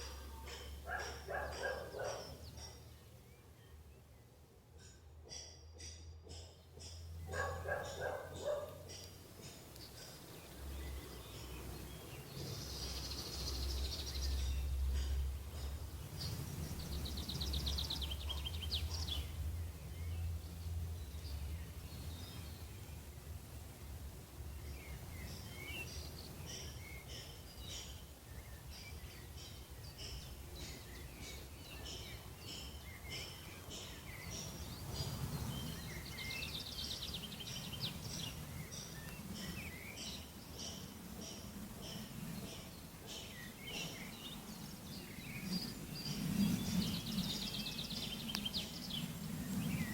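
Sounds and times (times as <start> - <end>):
songbirds chirping and singing: 0.0 - 23.4, 24.4 - 49.9.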